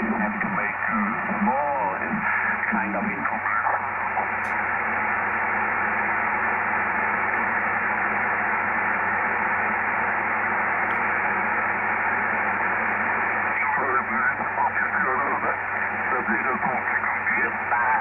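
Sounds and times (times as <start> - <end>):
radio receiver hiss: 0.0 - 18.0.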